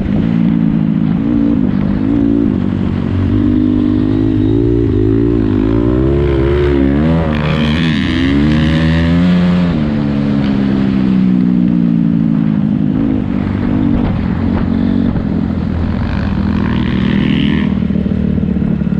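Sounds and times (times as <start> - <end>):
motorbike engine revving: 0.0 - 18.9.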